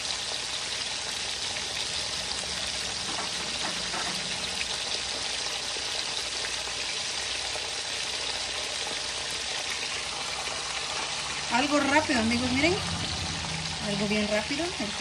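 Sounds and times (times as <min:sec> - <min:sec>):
beef sizzling in oil: 0:00.0 - 0:15.0.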